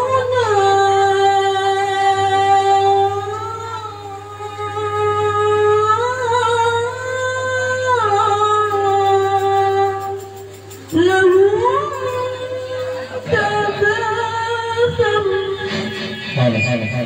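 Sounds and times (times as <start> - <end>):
woman singing through loudspeaker: 0.0 - 16.8.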